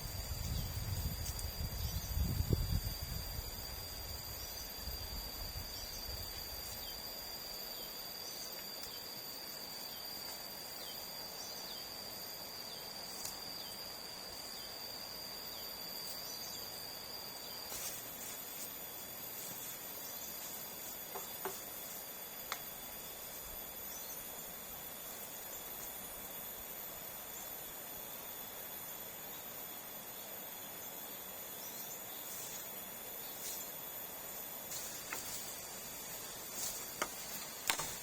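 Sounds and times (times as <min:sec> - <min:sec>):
background hiss: 0:00.0 - 0:38.0
insects trilling: 0:00.0 - 0:38.0.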